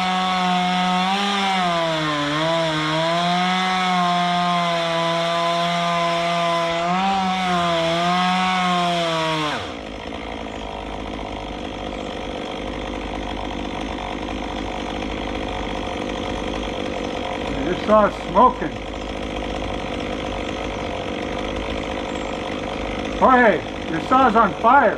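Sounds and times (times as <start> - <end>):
chainsaw cutting at high revs: 0.0 - 24.9.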